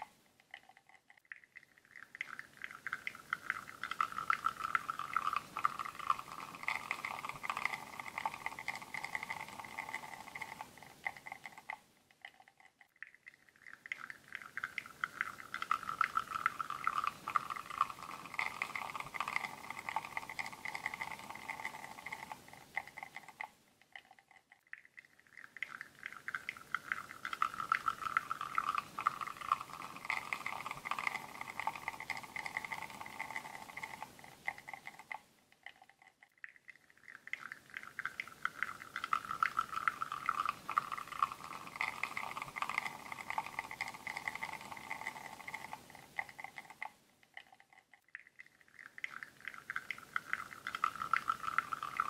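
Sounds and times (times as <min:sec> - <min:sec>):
espresso trickling and crackling: 0:00.0 - 0:52.0.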